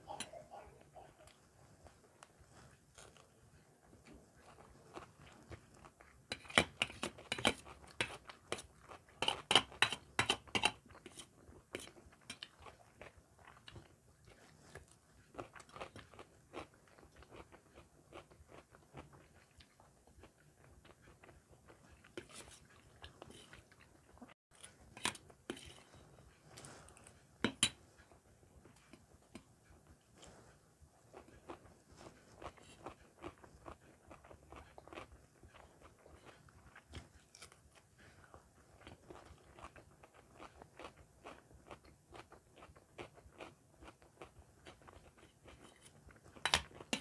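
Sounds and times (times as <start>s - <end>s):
person chewing crunchy food: 2.2s - 47.0s.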